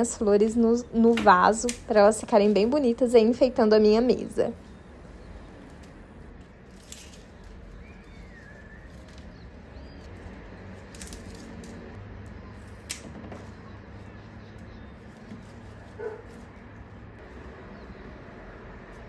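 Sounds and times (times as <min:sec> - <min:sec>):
flower stems rustling: 0:00.7 - 0:12.0, 0:12.6 - 0:19.0.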